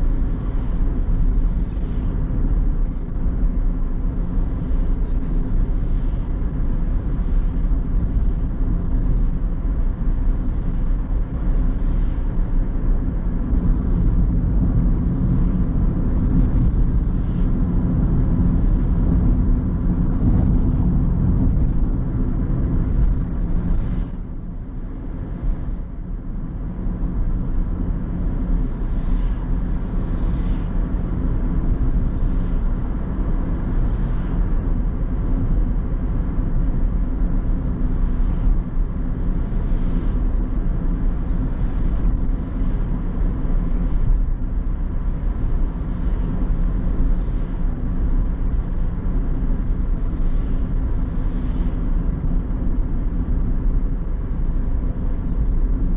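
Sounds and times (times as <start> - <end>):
car engine hum: 0.0 - 55.9
road noise: 0.0 - 55.9.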